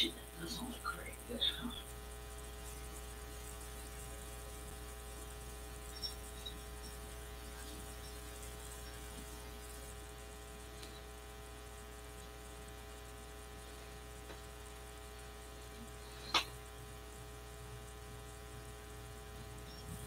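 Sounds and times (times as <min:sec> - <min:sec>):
buzzy electrical hum: 0:00.0 - 0:20.0.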